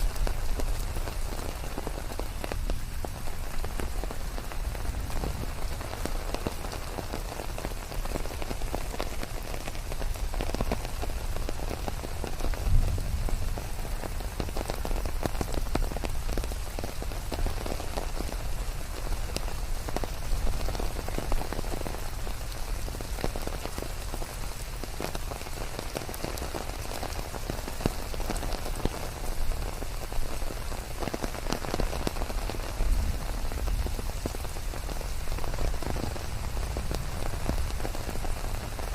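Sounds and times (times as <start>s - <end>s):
rain drops ticking and hissing: 0.0s - 38.9s.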